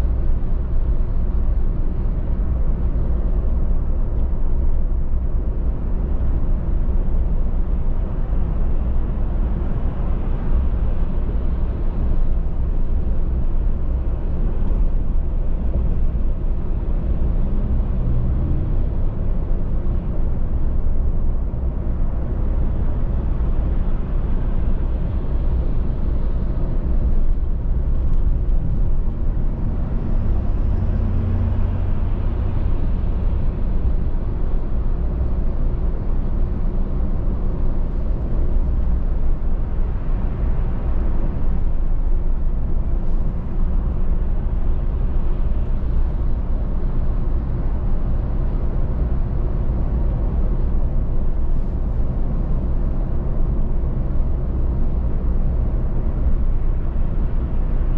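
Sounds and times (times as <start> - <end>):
car driving: 0.0 - 57.9.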